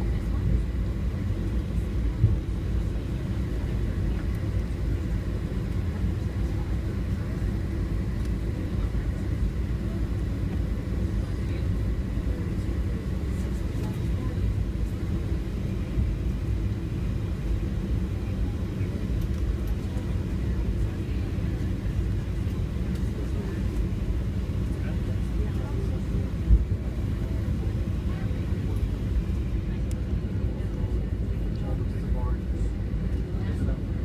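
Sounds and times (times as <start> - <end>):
airliner cabin low rumble: 0.0 - 34.0.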